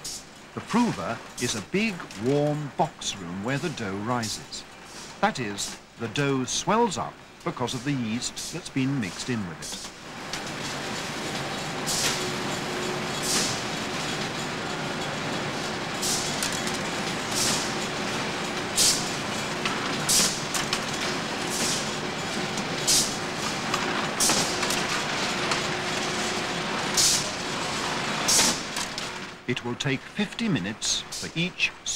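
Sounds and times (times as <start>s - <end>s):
conveyor machinery running: 0.0s - 31.9s.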